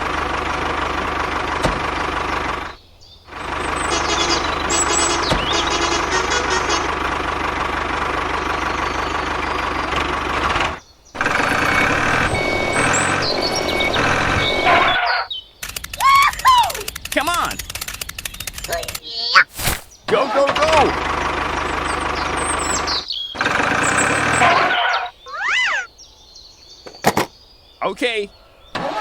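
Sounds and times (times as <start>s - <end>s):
vehicle engine running: 0.0s - 19.0s, 19.6s - 25.2s.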